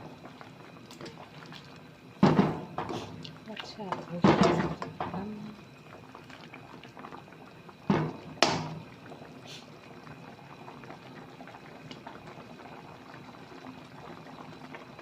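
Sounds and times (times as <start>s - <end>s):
curry bubbling in a pot: 0.0s - 15.0s.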